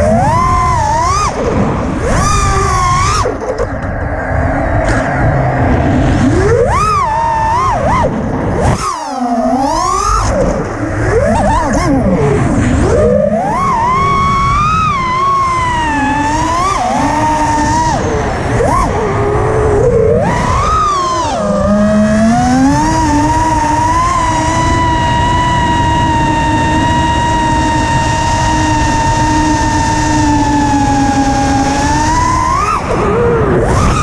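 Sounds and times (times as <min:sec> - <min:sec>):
wind on microphone: 0:00.0 - 0:08.9, 0:09.6 - 0:34.0
drone motors whining: 0:00.0 - 0:34.0.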